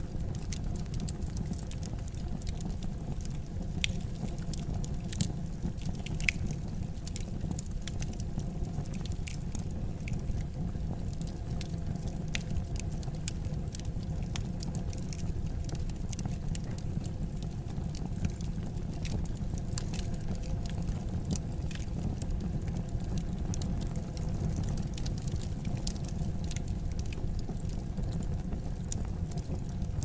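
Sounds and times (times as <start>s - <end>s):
wood fire crackling and popping: 0.1s - 30.0s.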